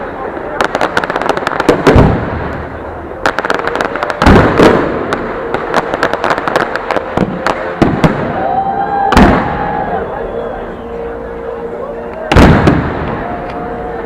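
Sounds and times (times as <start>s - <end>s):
fireworks booming: 0.0s - 10.2s, 12.2s - 14.0s
fireworks crackling: 0.0s - 14.0s.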